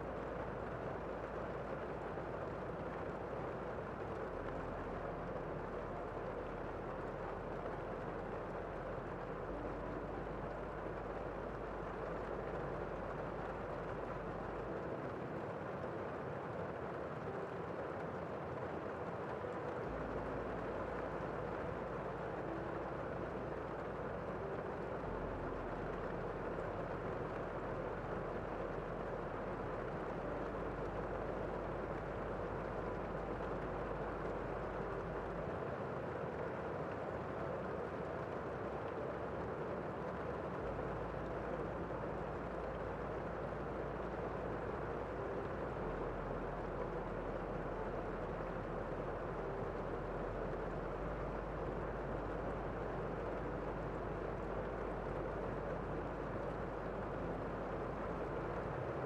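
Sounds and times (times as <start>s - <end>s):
muffled rain pattering: 0.0s - 59.0s.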